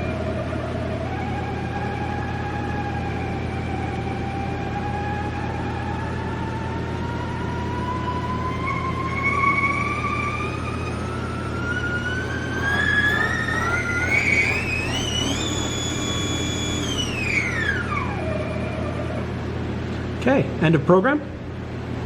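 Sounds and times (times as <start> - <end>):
lathe spindle whine: 0.0 - 20.2.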